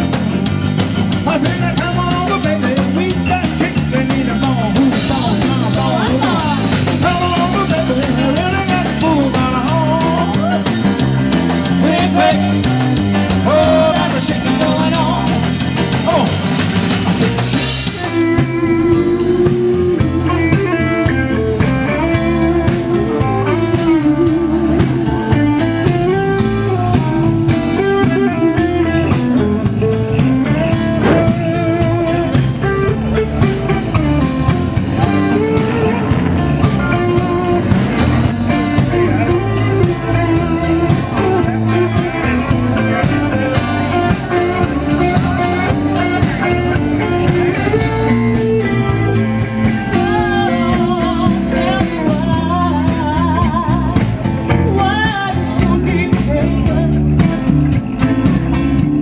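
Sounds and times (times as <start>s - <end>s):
live blues band playing: 0.0s - 59.0s.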